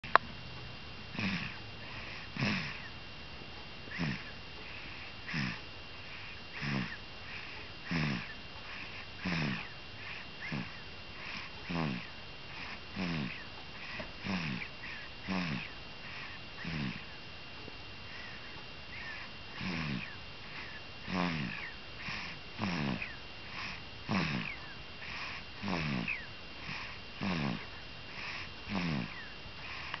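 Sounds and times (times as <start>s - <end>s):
baby snoring: 1.1s - 2.9s, 3.9s - 17.2s, 18.1s - 30.0s
soft breathing: 1.1s - 3.0s, 3.9s - 17.2s, 17.9s - 30.0s.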